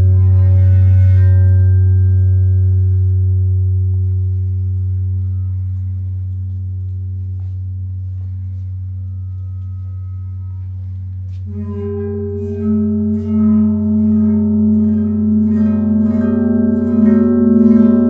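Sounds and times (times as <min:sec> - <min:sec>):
low ringing tone: 0:00.0 - 0:18.0.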